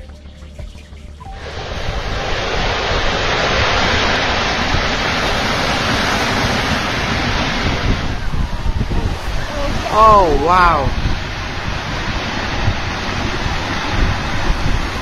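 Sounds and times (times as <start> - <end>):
wind on microphone: 0.6 - 15.0
cliff collapse rushing: 1.4 - 15.0.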